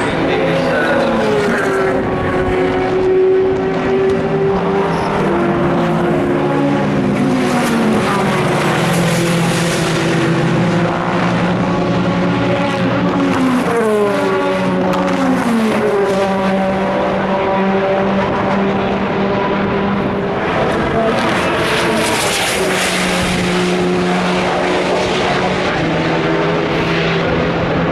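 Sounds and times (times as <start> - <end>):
racing car engines: 0.0 - 27.9.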